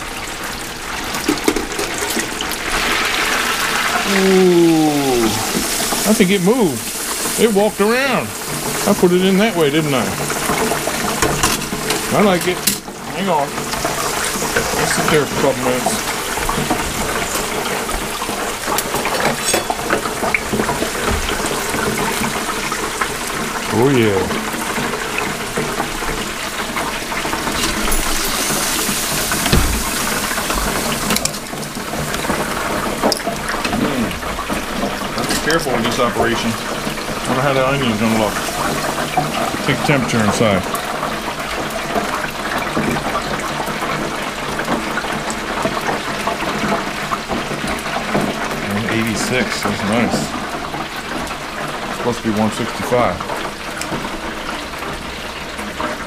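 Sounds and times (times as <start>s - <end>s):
oil sizzling and crackling: 0.0s - 56.0s.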